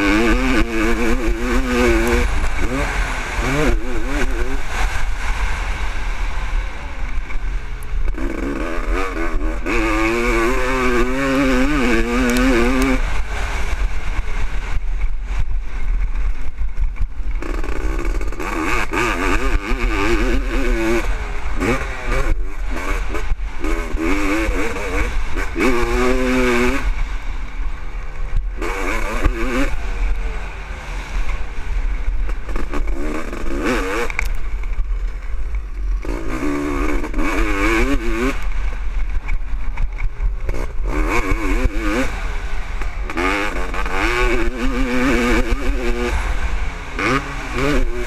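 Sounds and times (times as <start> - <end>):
motocross engine revving: 0.0 - 48.0.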